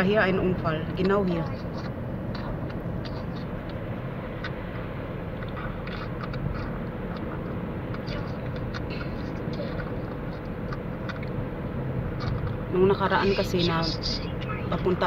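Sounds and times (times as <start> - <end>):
car road noise from cabin: 0.0 - 15.0.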